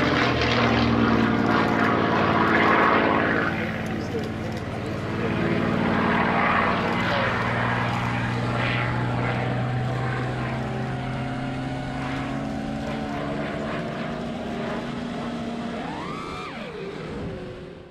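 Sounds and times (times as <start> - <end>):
model aircraft motor hum: 0.0 - 17.9.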